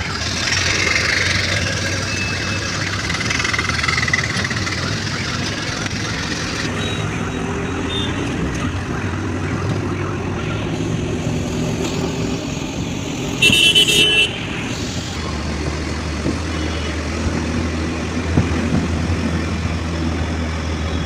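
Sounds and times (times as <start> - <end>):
auto-rickshaw engine running: 0.0 - 21.0
road noise: 0.0 - 21.0.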